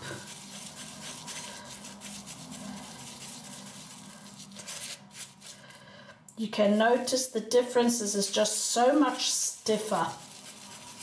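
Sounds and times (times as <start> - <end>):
shaving brush bristles on soap: 0.0 - 5.7, 6.6 - 11.0.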